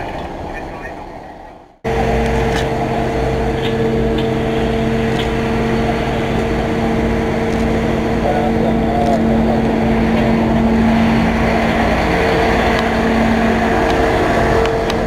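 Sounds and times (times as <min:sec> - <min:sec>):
truck engine droning with whine: 0:00.0 - 0:15.0.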